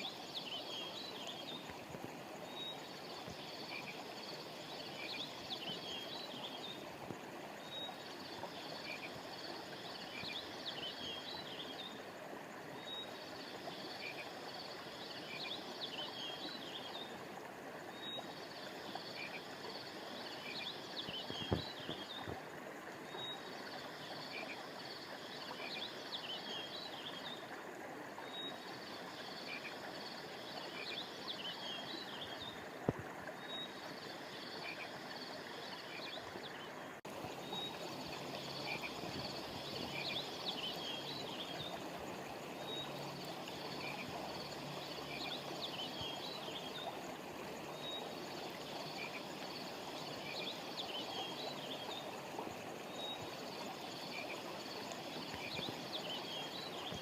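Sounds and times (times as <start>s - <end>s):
frogs or insects chirping: 0.0s - 57.0s
river water flowing: 0.0s - 57.0s.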